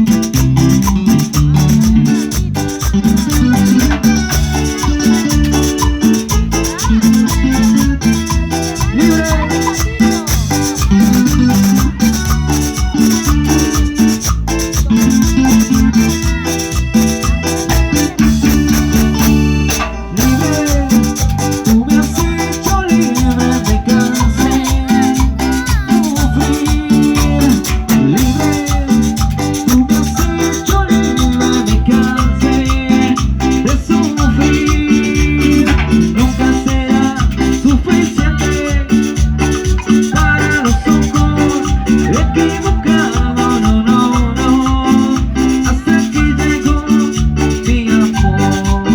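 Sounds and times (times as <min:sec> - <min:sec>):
latin dance music: 0:00.0 - 0:48.9
maracas shaking: 0:00.0 - 0:48.9.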